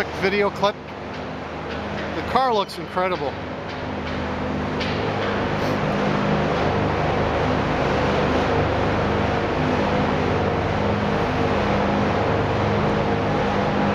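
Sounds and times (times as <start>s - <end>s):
machine drone with low hum: 0.0s - 13.9s.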